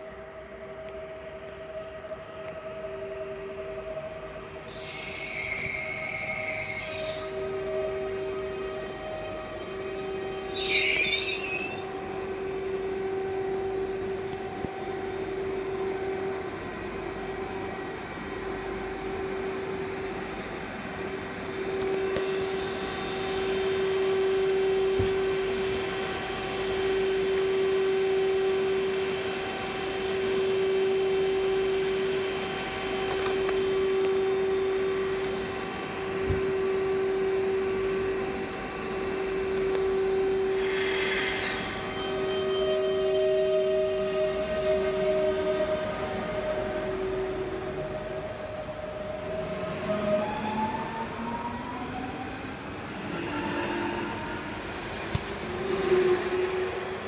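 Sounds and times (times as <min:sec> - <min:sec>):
train electrical hum: 0:00.0 - 0:57.0.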